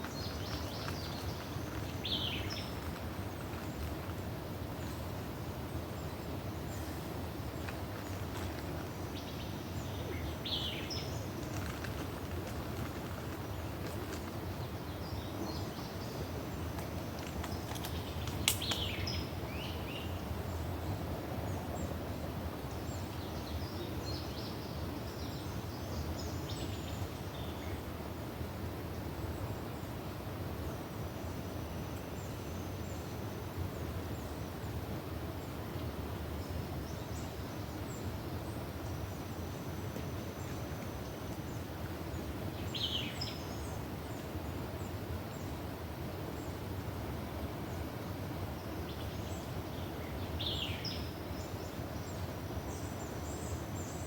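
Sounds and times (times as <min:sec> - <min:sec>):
low outdoor rushing noise: 0:00.0 - 0:54.0.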